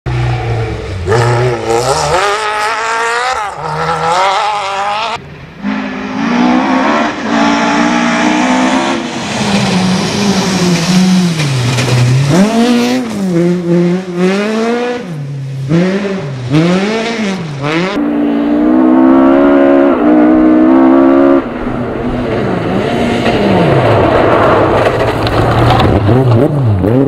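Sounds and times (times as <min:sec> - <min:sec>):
rally car engine revving: 0:00.1 - 0:27.0.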